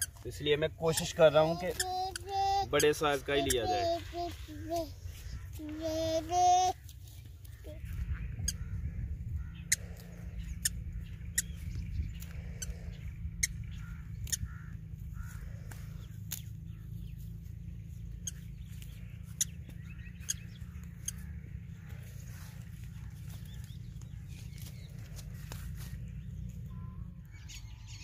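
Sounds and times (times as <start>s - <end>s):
faint bird calls: 0.0s - 28.0s
steady low rumble: 3.8s - 28.0s.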